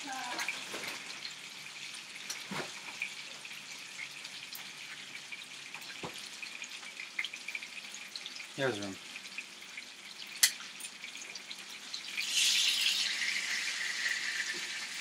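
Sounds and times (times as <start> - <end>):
chicken sizzling in a skillet: 0.0 - 15.0.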